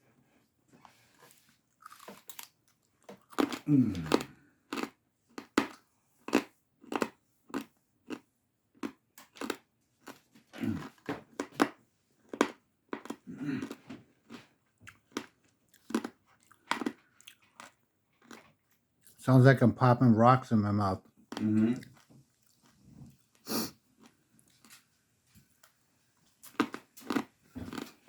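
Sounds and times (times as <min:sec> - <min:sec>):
crunchy chewing: 0:00.8 - 0:19.2, 0:21.0 - 0:28.0.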